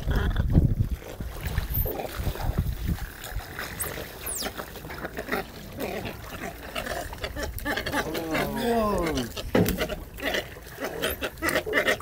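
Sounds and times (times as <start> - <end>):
water splashing around a boat: 0.0 - 12.0.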